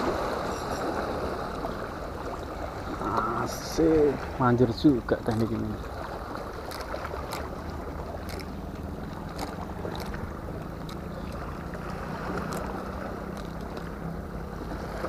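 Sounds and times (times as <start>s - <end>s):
low engine drone: 0.0s - 15.0s
water washing against rocks: 0.0s - 15.0s.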